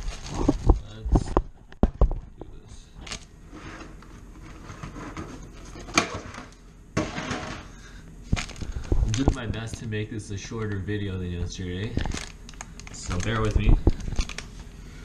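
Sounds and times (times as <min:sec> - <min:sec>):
plastic rustling: 0:00.0 - 0:02.2, 0:03.0 - 0:14.7.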